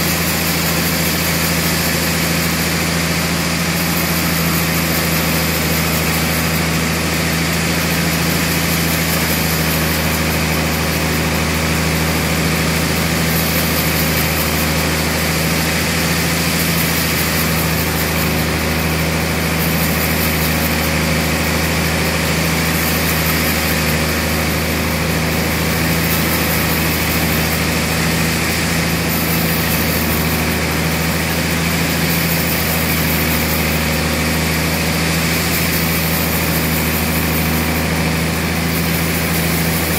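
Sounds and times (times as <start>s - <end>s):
band saw machine hum: 0.0s - 39.9s
saw blade hissing in wood: 0.0s - 39.9s.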